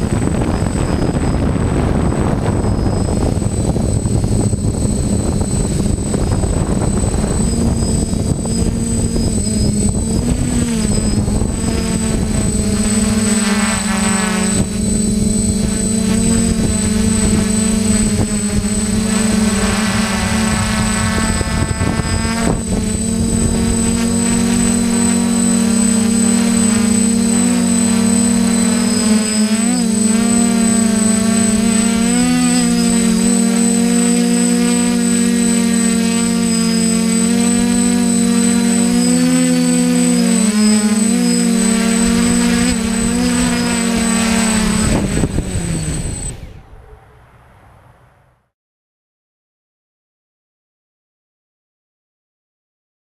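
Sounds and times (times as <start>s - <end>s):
drone motors buzzing: 0.0s - 47.0s.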